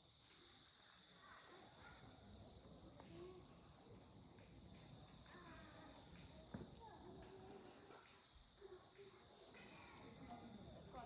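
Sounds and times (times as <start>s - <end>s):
insects chirping in trills: 0.0s - 11.0s.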